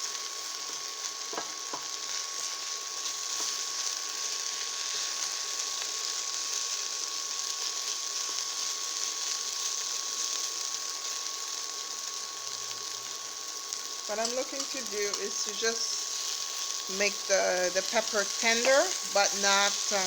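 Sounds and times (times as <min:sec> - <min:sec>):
peppers sizzling in a pan: 0:00.0 - 0:20.0.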